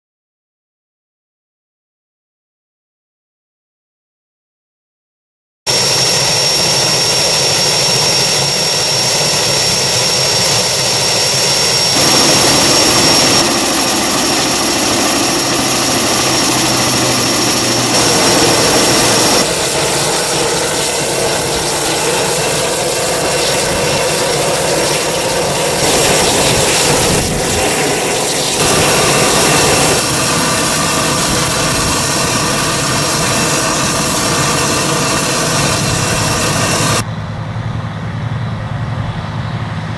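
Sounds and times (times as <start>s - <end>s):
plane engine whining: 5.7s - 39.9s.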